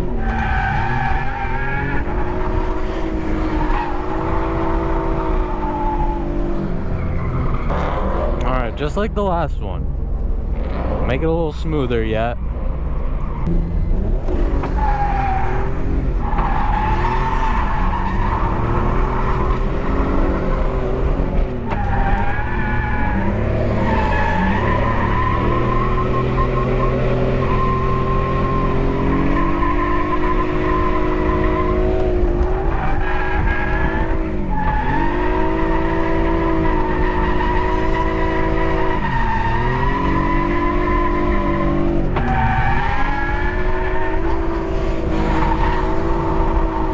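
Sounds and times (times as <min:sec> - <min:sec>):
tire squeal: 0:00.0 - 0:08.6, 0:12.6 - 0:46.9
car engine at high revs: 0:00.0 - 0:46.9.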